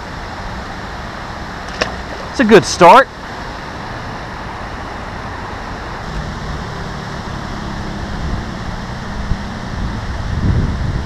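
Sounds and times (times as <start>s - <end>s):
water rushing from pipe: 0.0s - 11.0s.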